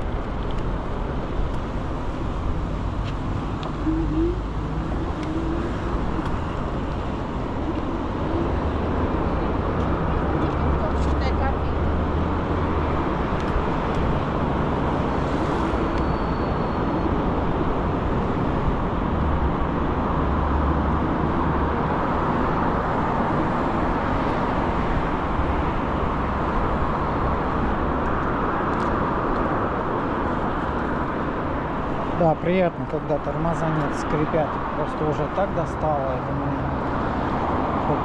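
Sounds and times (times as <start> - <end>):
scooter tyre and road noise: 0.0 - 38.0.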